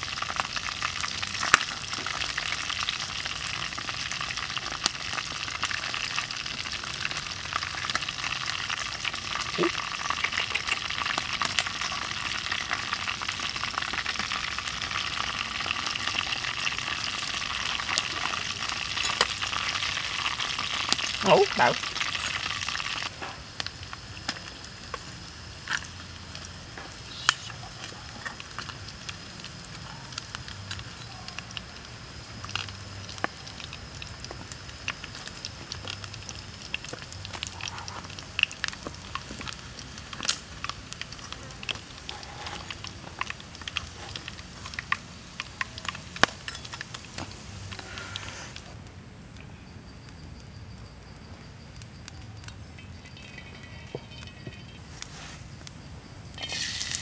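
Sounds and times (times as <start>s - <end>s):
sharp crackles: 0.0s - 48.9s, 51.6s - 57.0s
hot oil sizzling and popping: 0.0s - 49.0s, 50.0s - 57.0s.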